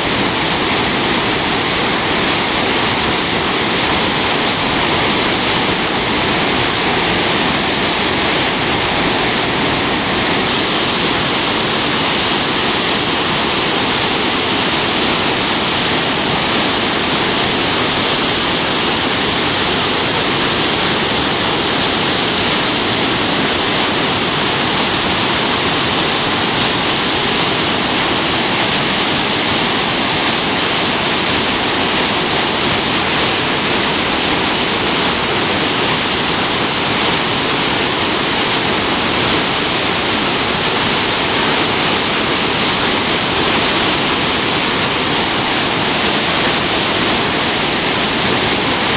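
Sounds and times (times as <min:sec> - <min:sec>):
whitewater roaring over falls: 0:00.0 - 0:48.9.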